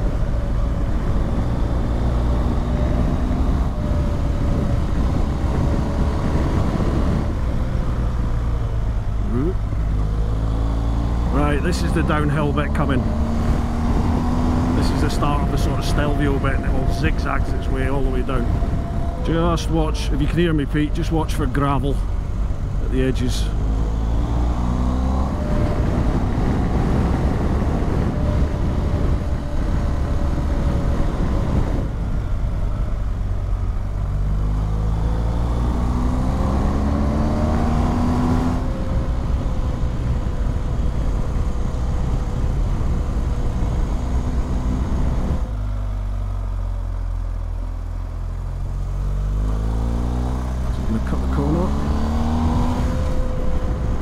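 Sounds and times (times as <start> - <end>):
wind rush over microphone: 0.0 - 22.8, 23.6 - 45.6, 49.6 - 54.0.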